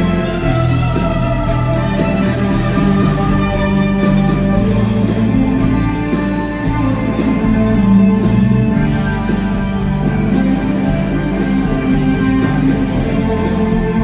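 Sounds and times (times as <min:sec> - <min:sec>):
electric guitar ringing: 0:00.0 - 0:14.0
live rock band playing: 0:00.0 - 0:14.0.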